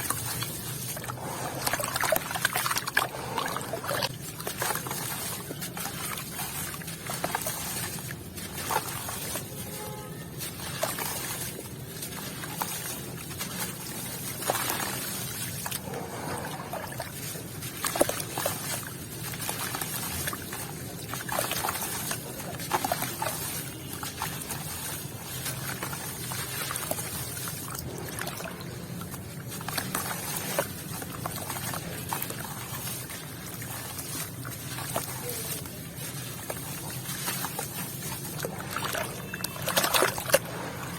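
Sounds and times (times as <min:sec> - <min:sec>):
gritty cement crunching: 0:00.0 - 0:40.9
water trickling and dripping: 0:00.0 - 0:40.9.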